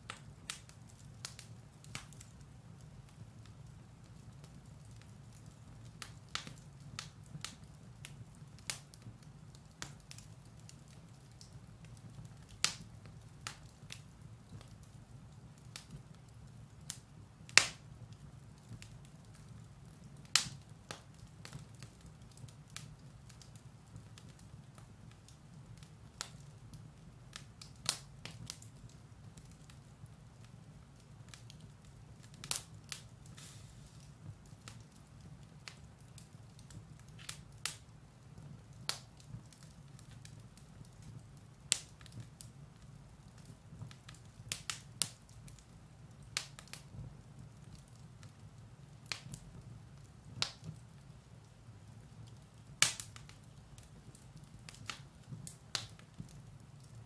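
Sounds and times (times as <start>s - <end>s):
firewood crackling and popping: 0.0s - 57.0s
low rumble of fire: 0.0s - 57.0s.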